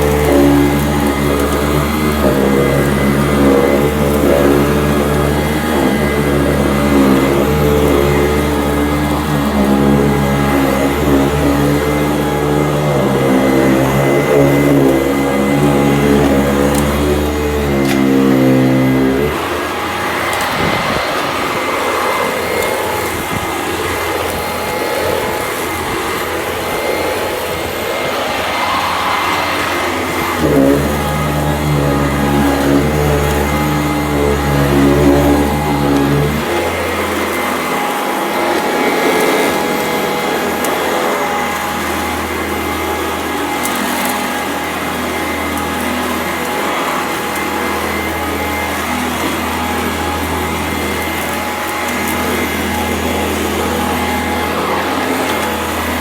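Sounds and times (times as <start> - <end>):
grit crunching in vacuum: 0.0 - 56.0
vacuum cleaner running: 0.0 - 56.0.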